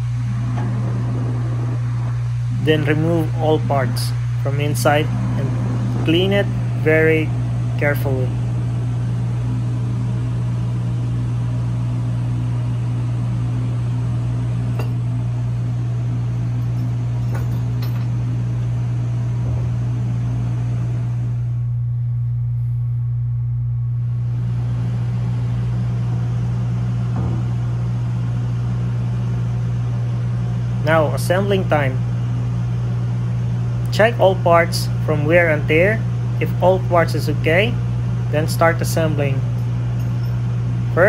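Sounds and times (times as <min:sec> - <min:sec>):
low drone of machinery: 0:00.0 - 0:41.0.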